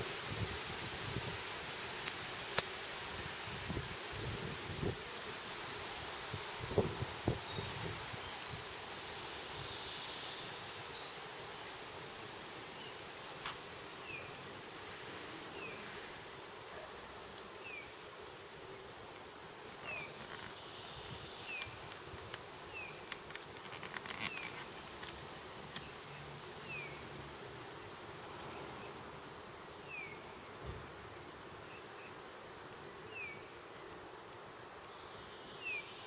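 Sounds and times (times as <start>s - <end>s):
faint steady buzz: 0.0s - 36.0s.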